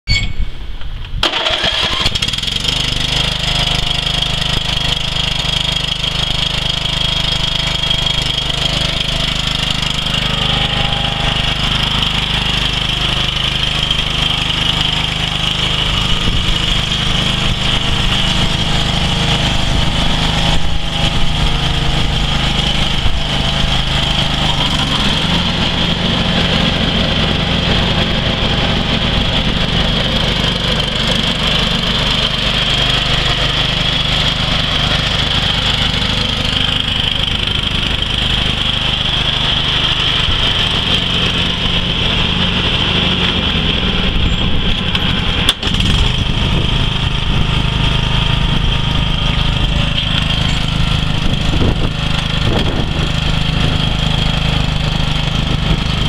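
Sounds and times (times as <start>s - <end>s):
lawn tractor engine running: 1.1s - 56.0s.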